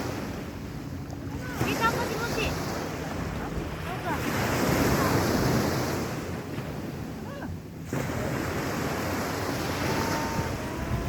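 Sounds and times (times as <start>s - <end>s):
sea waves washing onto beach: 0.0s - 11.0s
wind on microphone: 0.0s - 11.0s.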